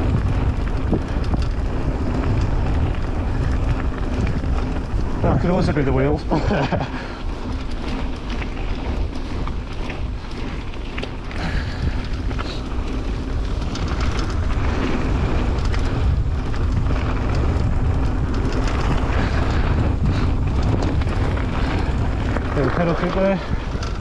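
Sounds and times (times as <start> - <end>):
bike clicks and rattles: 0.0 - 24.0
bike tyres rolling on gravel: 0.0 - 24.0
wind buffeting microphone: 0.0 - 24.0.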